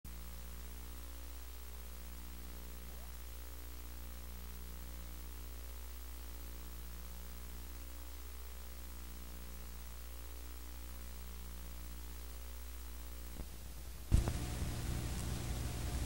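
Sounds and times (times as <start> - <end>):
low electrical hum: 0.1 - 16.0.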